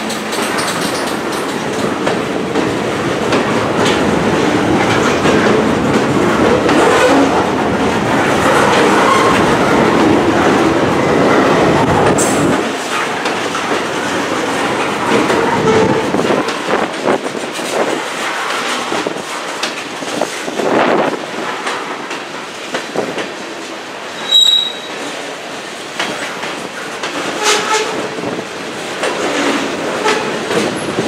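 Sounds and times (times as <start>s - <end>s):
freight train wheels rumbling: 0.0s - 31.0s
wheels clacking over rail joints: 0.0s - 31.0s.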